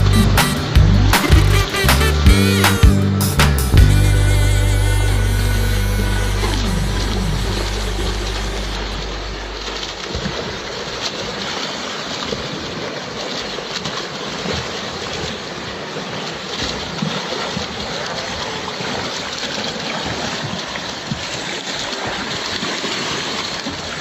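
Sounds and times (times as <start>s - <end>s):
pool water splashing: 0.0s - 24.0s.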